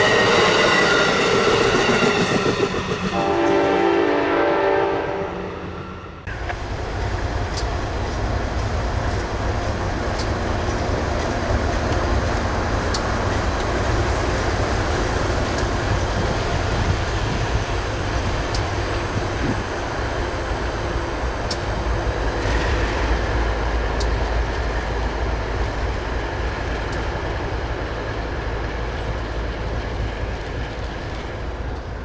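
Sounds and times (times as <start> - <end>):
train wheels rumbling on rails: 0.0 - 32.0
sharp rail clicks: 5.7 - 32.0.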